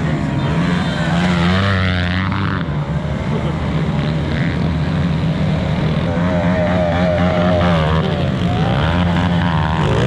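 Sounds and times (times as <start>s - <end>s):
dirt bike engines running: 0.0s - 10.0s.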